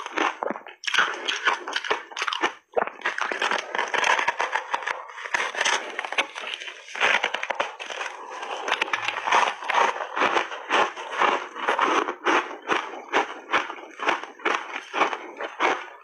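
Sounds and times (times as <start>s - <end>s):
ice crunching between teeth: 0.0s - 16.0s.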